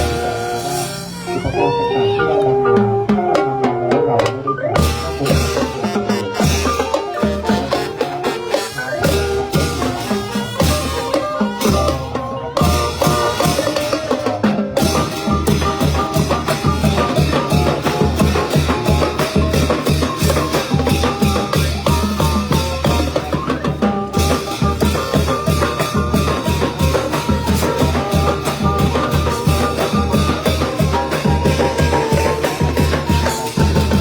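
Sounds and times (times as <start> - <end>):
brass melody: 0.0 - 3.2, 4.8 - 34.0
pulsed drum beat: 0.0 - 3.6, 4.2 - 34.0.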